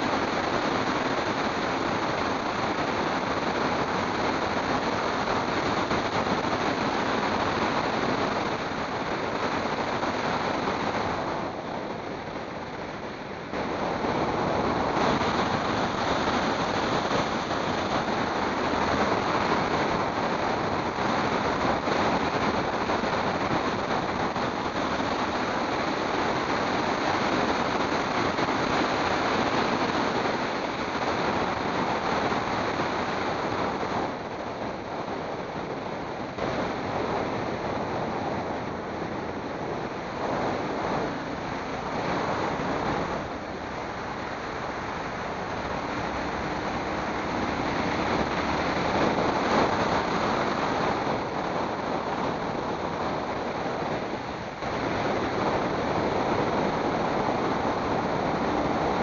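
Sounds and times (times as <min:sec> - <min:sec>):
road and tyre noise: 0:00.0 - 0:59.0
wind noise on microphone: 0:00.0 - 0:59.0.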